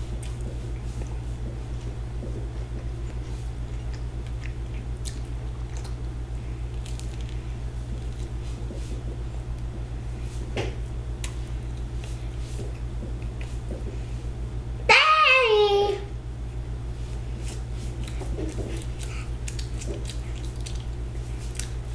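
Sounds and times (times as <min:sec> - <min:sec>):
child chewing a sandwich: 0:00.0 - 0:14.2, 0:16.5 - 0:21.9
steady low hum: 0:00.0 - 0:21.9.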